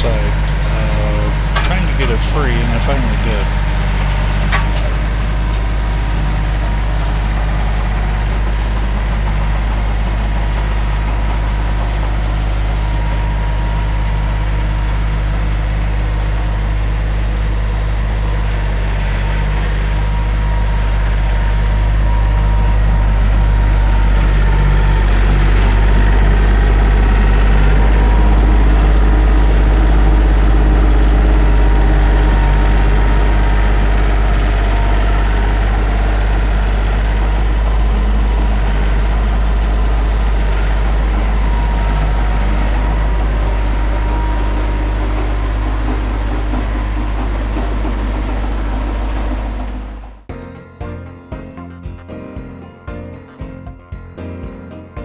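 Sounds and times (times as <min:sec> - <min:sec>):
rototiller tilling soil: 0:00.0 - 0:50.3
tractor engine running: 0:00.0 - 0:50.4.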